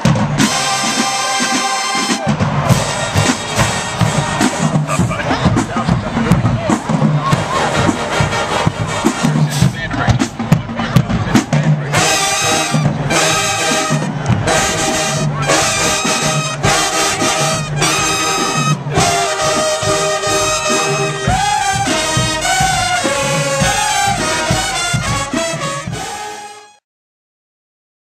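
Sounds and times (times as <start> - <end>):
brass band music: 0.0 - 26.8.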